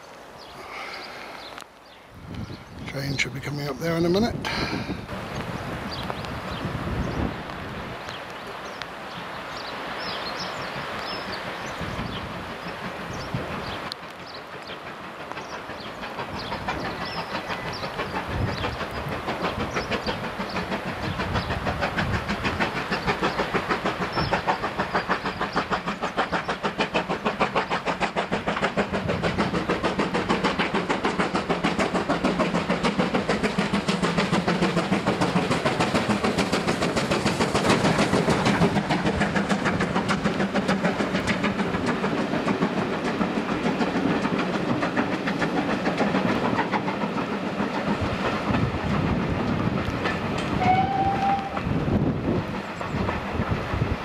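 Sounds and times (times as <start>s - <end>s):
steam locomotive exhaust beats: 0.0s - 54.0s
wheels clattering on rail joints: 2.3s - 54.0s.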